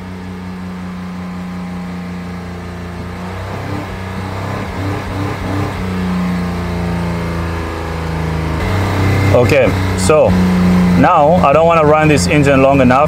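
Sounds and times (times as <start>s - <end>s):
car engine idling high: 0.0s - 13.0s.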